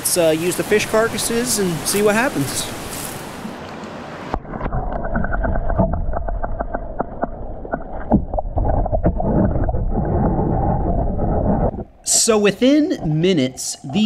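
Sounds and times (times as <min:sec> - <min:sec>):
muffled underwater water rush: 0:00.0 - 0:12.0.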